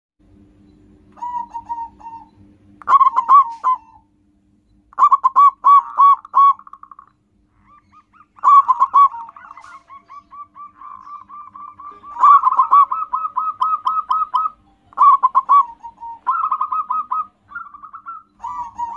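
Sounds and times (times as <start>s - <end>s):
dove cooing: 1.2s - 4.0s, 5.0s - 7.0s, 7.6s - 18.9s.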